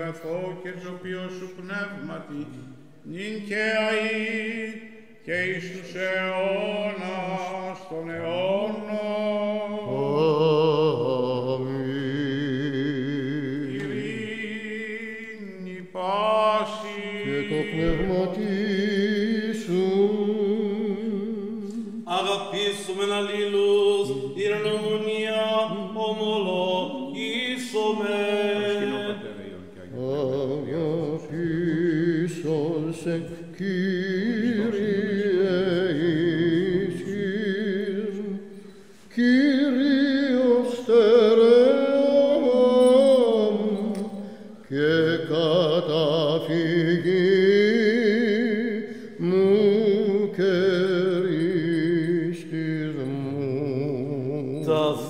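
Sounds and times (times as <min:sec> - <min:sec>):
person chanting ornamented melody: 0:03.1 - 0:21.1, 0:22.1 - 0:38.4, 0:39.2 - 0:55.0.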